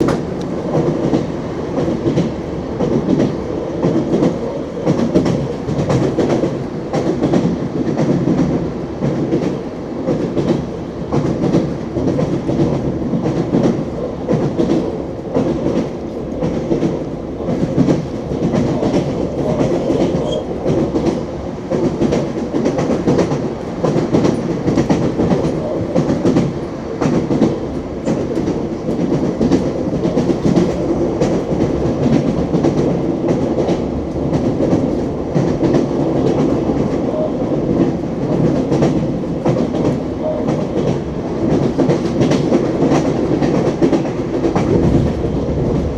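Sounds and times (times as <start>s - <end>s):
train wheels clattering over rail joints: 0.0s - 36.9s
moving train rumble: 0.0s - 45.9s.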